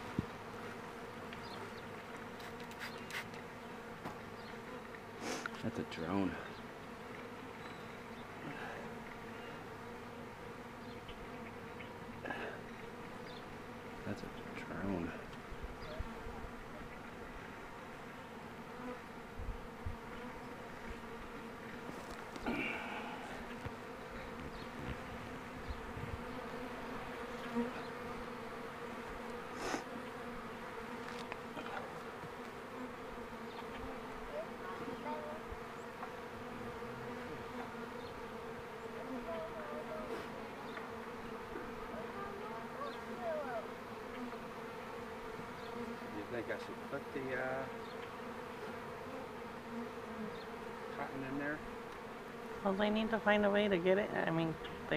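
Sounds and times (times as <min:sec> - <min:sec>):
honeybees buzzing: 0:00.0 - 0:54.9.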